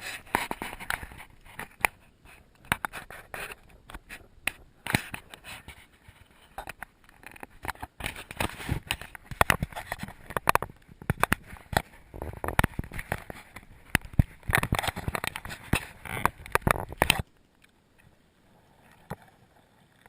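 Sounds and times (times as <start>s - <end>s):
clicks and scraping: 0.0s - 20.0s.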